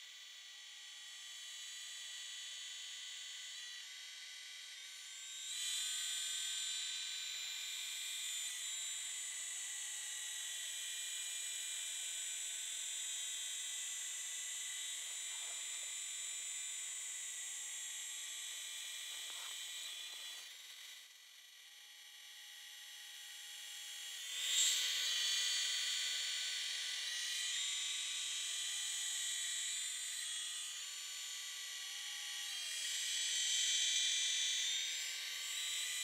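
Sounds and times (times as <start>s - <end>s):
rc helicopter high-pitched whine: 0.0s - 36.0s.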